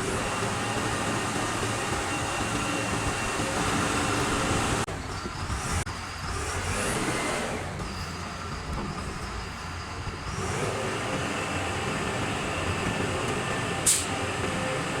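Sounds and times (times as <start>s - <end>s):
truck engine and machinery running: 0.0s - 15.0s.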